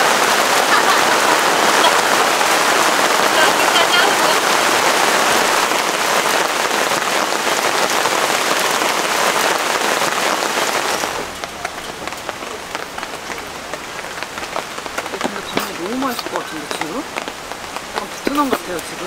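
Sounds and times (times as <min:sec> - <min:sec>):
heavy rain on pavement: 0:00.0 - 0:19.0
water drops and drips: 0:01.8 - 0:19.0.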